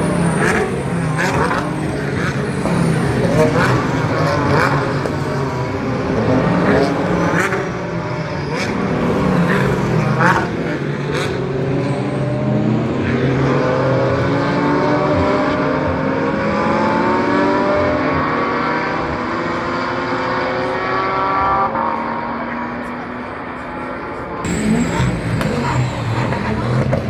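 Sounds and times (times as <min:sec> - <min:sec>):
race car accelerating: 0:00.0 - 0:27.0.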